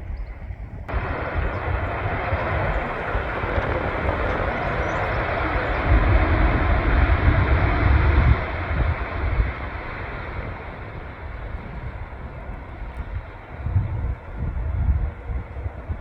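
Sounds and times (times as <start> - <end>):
wind buffeting microphone: 0.0 - 16.0
jet aircraft engine rush: 0.9 - 16.0.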